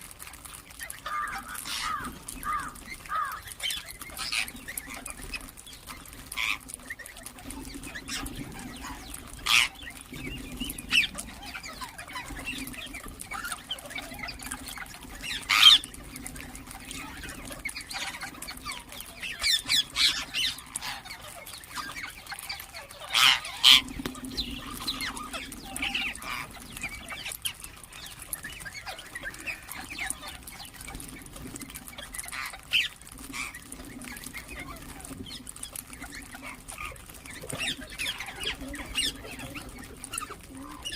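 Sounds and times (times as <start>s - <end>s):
parakeets calling: 0.5s - 40.9s.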